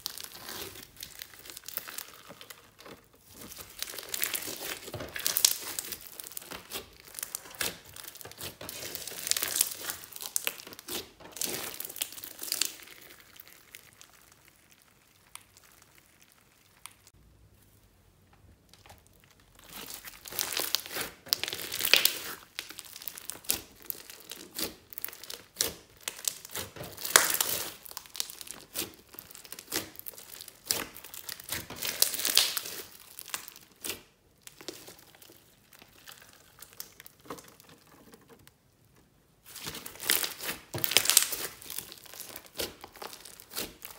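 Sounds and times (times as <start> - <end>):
slime crackling and squelching: 0.0 - 43.9.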